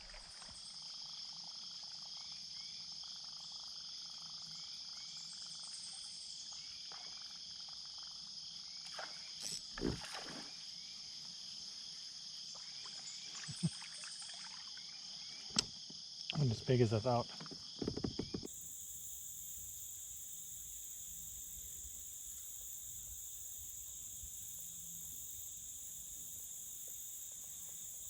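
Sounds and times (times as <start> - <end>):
insects buzzing: 0.0 - 28.0.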